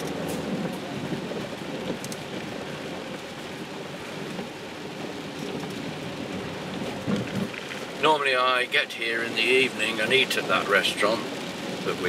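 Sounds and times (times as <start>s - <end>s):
rain on car roof: 0.0s - 12.0s
tyre noise on wet road: 0.0s - 12.0s.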